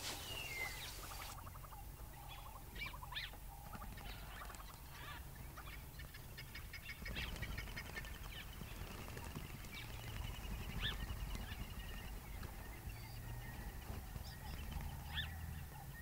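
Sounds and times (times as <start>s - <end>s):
birds chattering trills: 0.0s - 16.0s.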